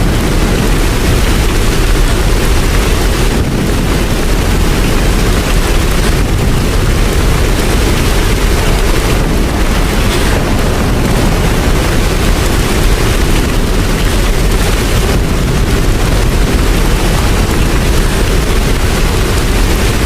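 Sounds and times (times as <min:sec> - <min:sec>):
deep continuous rumble: 0:00.0 - 0:20.0
loud rain: 0:00.0 - 0:20.0.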